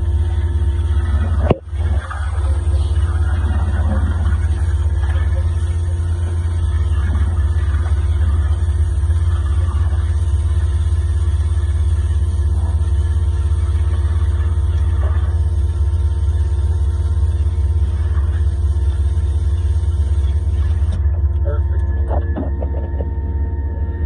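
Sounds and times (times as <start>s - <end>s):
pump engine humming: 0.0s - 24.0s
hose nozzle spraying water: 0.3s - 21.0s.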